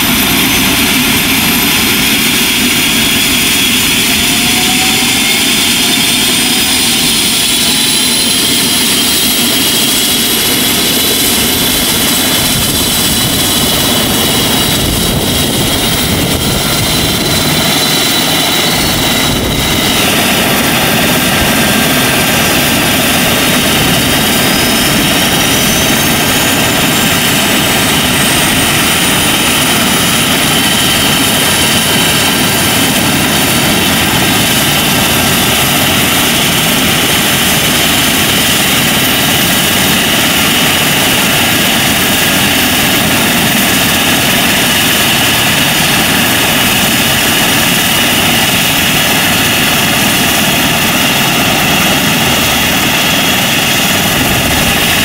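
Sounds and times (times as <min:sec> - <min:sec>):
helicopter turbine whine and rotor: 0:00.0 - 0:55.0.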